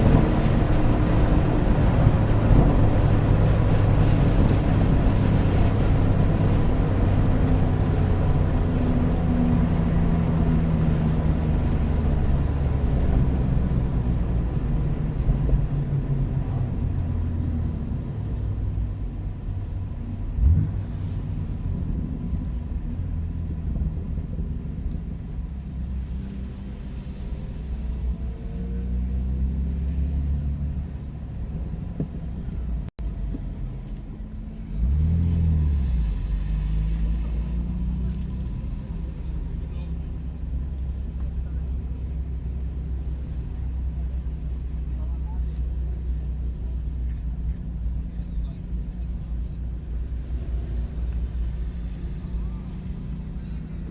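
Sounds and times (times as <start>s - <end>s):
car engine at low revs: 0.0s - 53.9s
road rumble: 0.0s - 53.9s.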